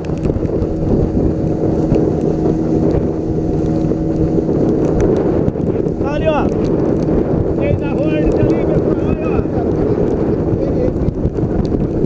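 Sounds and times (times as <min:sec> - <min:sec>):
small outboard motor running: 0:00.0 - 0:12.0
wind buffeting microphone: 0:00.0 - 0:12.0.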